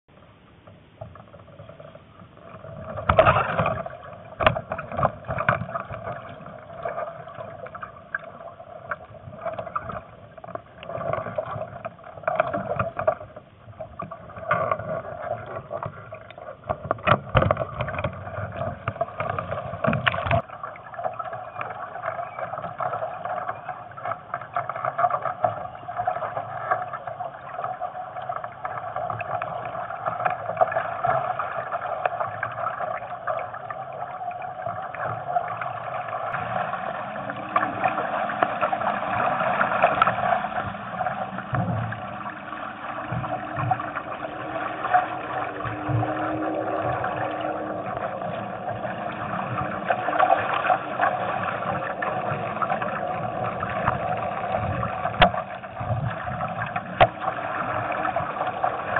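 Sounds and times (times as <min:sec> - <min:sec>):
water slapping against hull: 0:01.0 - 0:58.9
wind and water rushing: 0:01.6 - 0:58.9.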